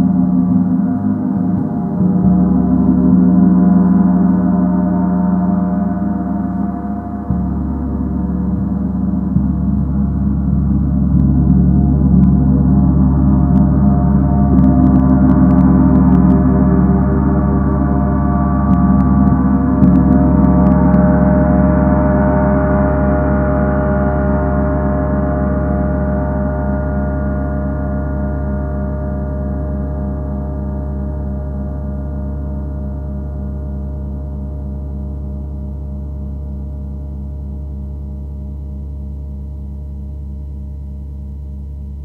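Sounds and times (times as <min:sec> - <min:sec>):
gong shimmering tones: 0:00.0 - 0:33.7.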